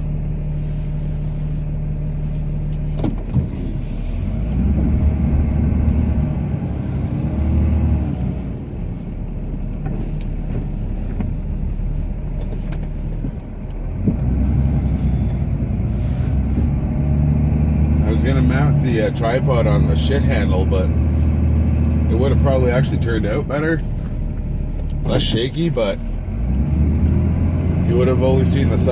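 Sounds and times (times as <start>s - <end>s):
diesel truck engine under load: 0.0s - 28.9s.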